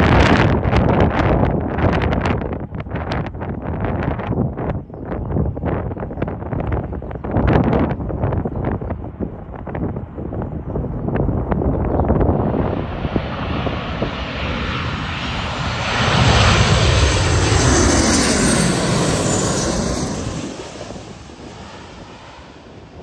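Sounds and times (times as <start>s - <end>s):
jet airliner passing overhead: 0.0s - 23.0s
wind buffeting microphone: 0.0s - 23.0s.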